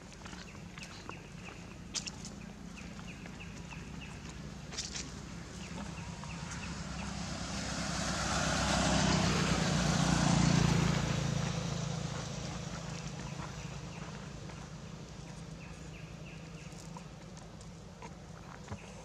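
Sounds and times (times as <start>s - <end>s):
motorbike passing by: 0.0s - 19.0s.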